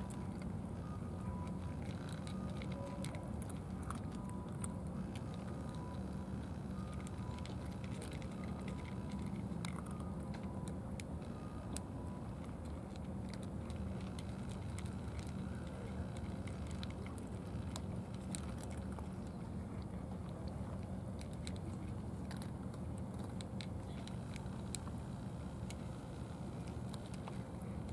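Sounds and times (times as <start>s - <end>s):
cats chewing and licking: 0.0s - 27.9s.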